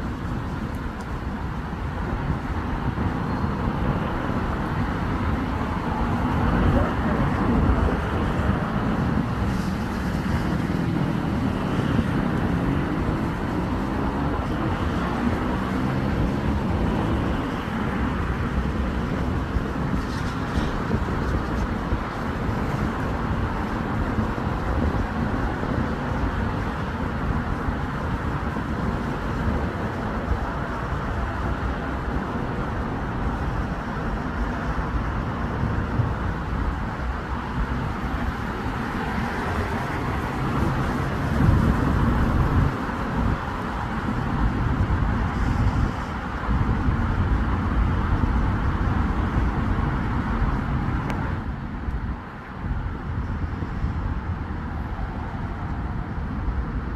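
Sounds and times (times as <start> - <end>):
road traffic passing: 0.0 - 56.9.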